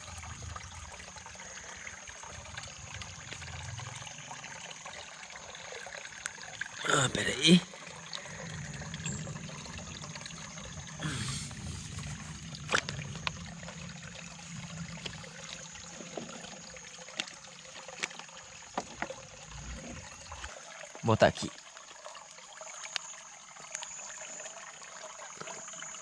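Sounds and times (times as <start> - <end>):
water trickling and sloshing: 0.0 - 26.0.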